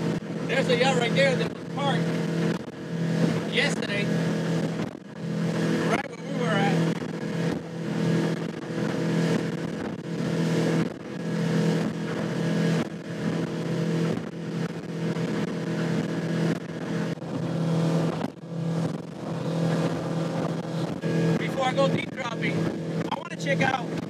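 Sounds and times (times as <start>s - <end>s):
motorboat engine running: 0.0s - 24.0s
water and wind rushing: 0.0s - 24.0s.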